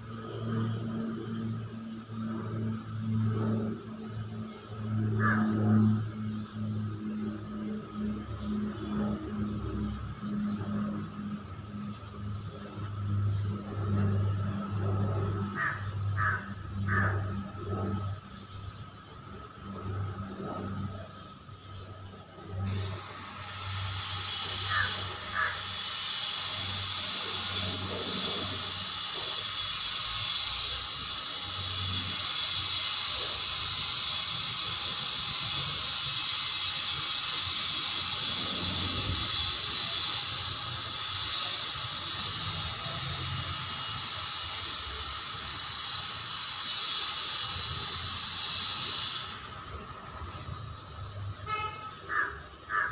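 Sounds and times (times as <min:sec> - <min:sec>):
high-pitched whining hiss: 0:00.0 - 0:52.9.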